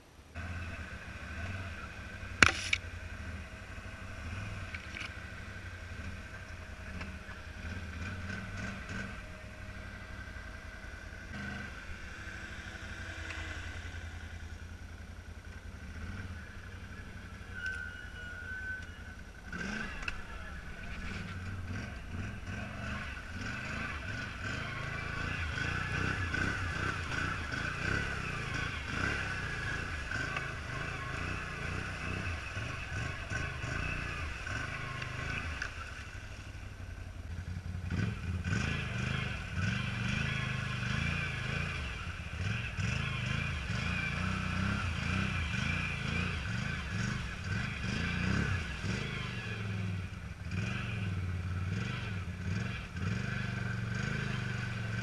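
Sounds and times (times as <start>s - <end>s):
atv engine running at low speed: 0.0s - 55.0s.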